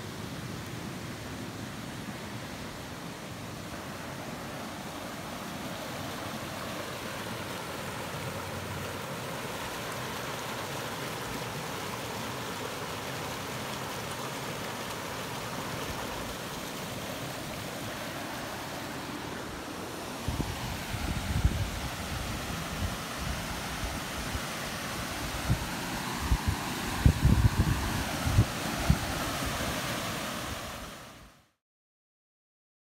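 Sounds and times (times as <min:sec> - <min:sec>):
creek flowing over rocks: 0:00.0 - 0:31.3.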